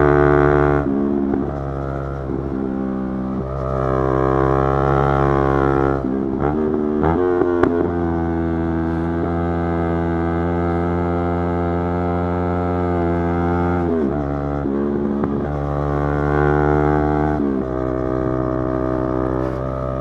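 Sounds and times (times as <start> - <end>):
motorcycle engine at high revs: 0.0 - 20.0.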